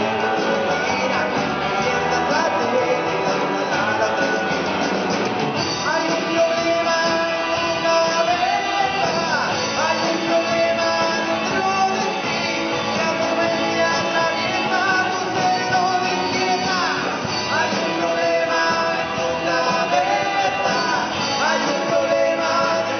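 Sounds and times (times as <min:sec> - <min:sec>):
rock band playing: 0:00.0 - 0:22.9.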